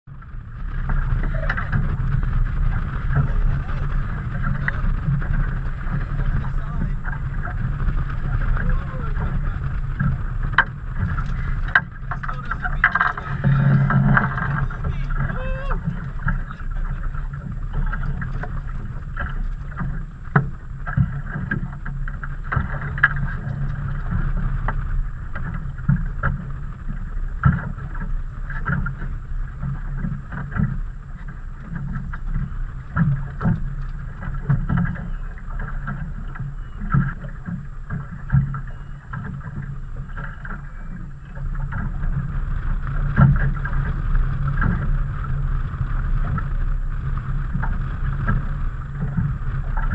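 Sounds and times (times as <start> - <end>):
low rumble: 0.0 - 49.9
water slapping against hull: 0.1 - 49.9.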